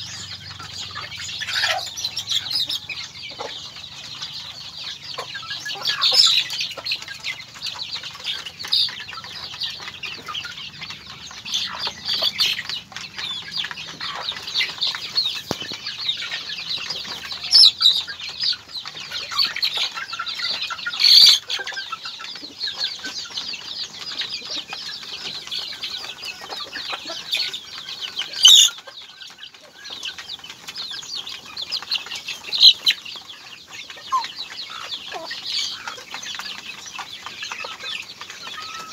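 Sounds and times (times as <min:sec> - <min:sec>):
chickens cheeping and clucking: 0:00.0 - 0:38.9.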